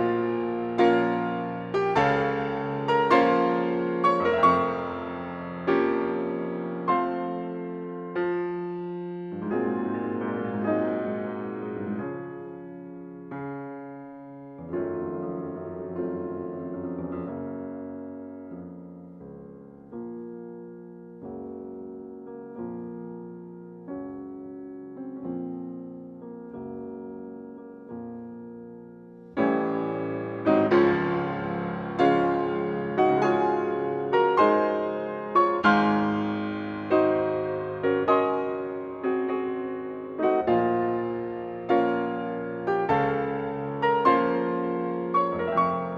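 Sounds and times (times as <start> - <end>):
soft piano chords: 0.0 - 45.9.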